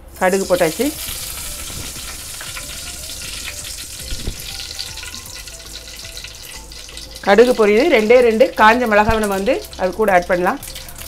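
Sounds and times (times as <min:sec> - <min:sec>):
seeds popping in hot oil: 0:00.0 - 0:11.0.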